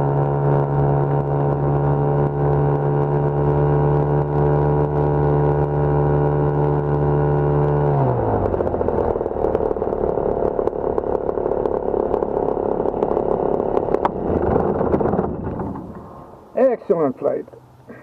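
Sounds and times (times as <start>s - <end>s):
ultralight aircraft engines: 0.0s - 18.0s.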